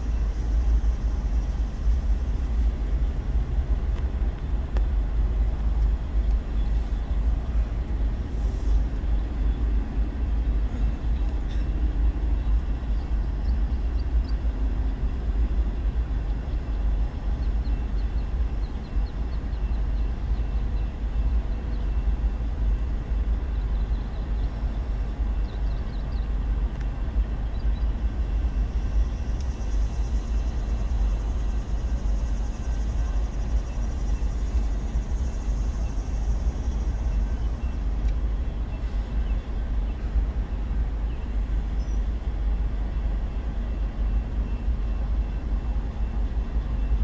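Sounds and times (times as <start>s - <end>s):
freight train rumbling past: 0.0s - 47.0s.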